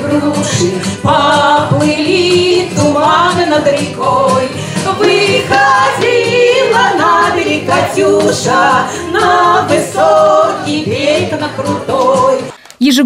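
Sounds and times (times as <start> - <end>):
women singing into microphones: 0.0 - 12.6.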